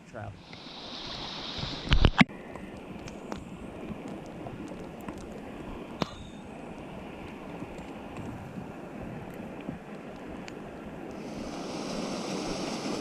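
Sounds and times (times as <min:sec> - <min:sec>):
stream water flowing: 0:00.3 - 0:13.0.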